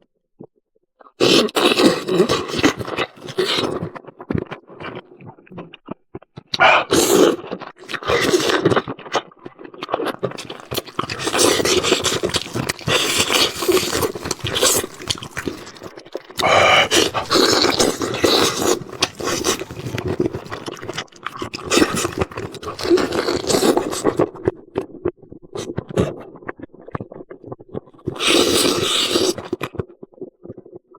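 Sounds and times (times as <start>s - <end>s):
person chewing food: 1.0s - 30.7s.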